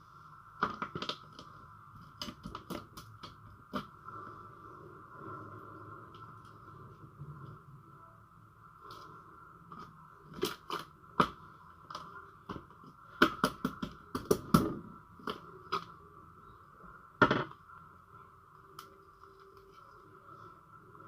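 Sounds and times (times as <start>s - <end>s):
faint steady whine: 0.0s - 21.0s.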